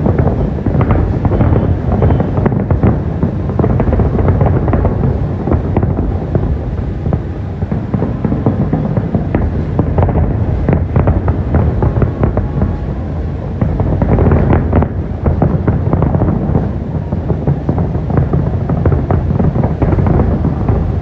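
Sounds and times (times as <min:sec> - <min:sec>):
fireworks bangs and crackles: 0:00.0 - 0:21.0
steady low rumble: 0:00.0 - 0:21.0.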